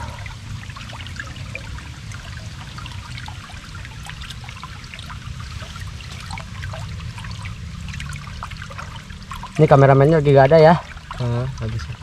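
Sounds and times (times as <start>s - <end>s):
river water trickling: 0.0s - 12.0s
steady low rumble: 0.0s - 12.0s
water drips and splashes: 0.0s - 12.0s.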